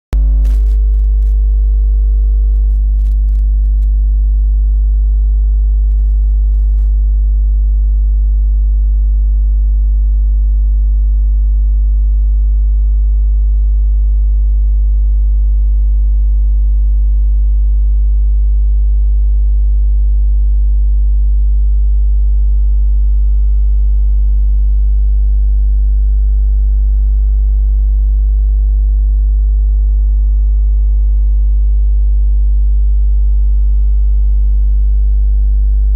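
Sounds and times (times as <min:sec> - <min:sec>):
deep electronic hum with tones: 0:00.0 - 0:35.9.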